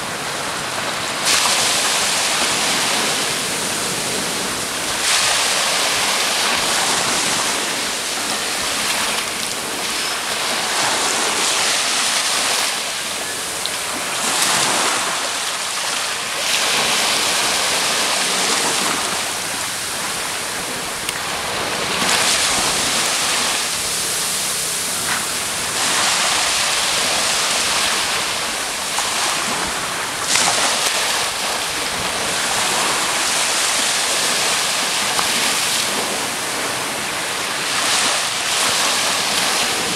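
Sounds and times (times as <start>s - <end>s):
small waves washing onto beach: 0.0s - 39.9s
wind on microphone: 0.0s - 39.9s.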